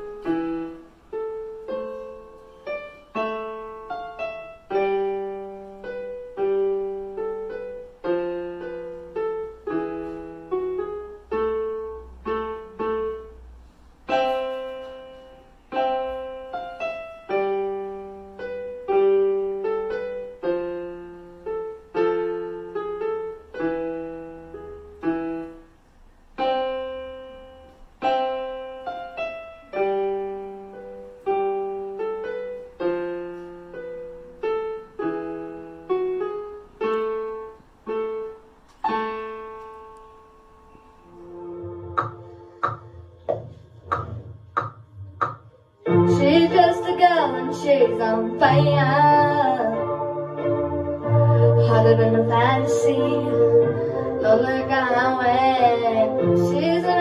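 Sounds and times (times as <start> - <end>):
digital piano solo: 0.0 - 57.0.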